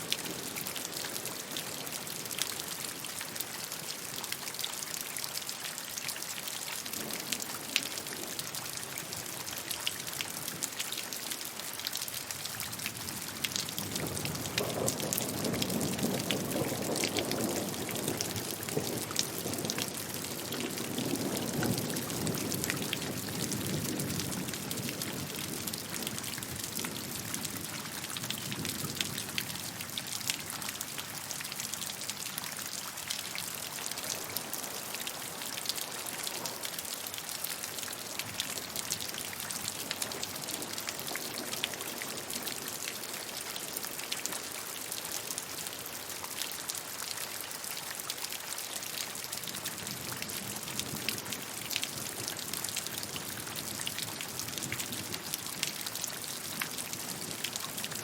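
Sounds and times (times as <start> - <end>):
raindrops pattering: 0.0 - 58.0.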